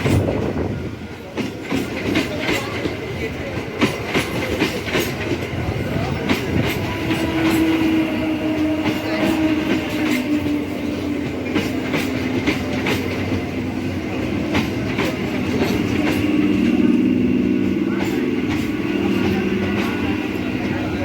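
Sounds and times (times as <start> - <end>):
low steady train whine: 0.0 - 21.0
train wheels clacking over rail joints: 0.0 - 21.0.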